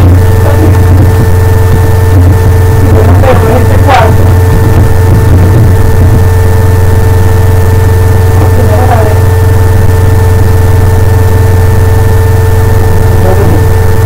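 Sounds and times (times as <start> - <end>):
loud electrical hum: 0.0 - 14.0.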